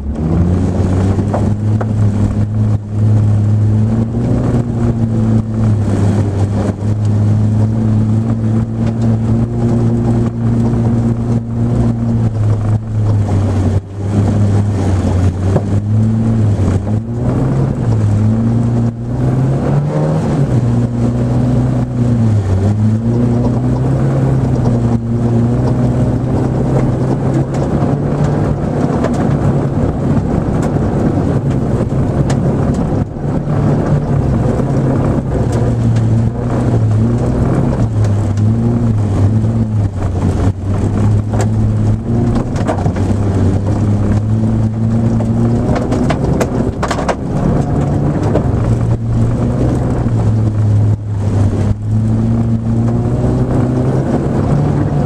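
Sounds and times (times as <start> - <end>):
rally car engine revving: 0.0 - 55.0
steady rushing noise: 0.0 - 55.0.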